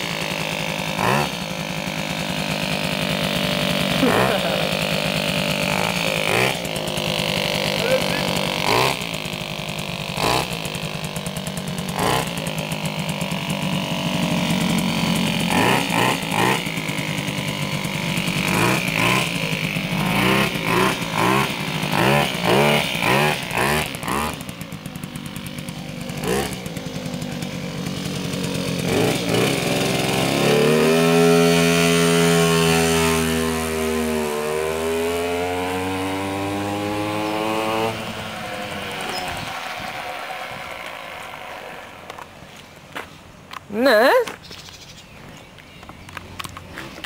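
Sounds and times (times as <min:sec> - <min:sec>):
moped engine revving: 0:00.0 - 0:45.0.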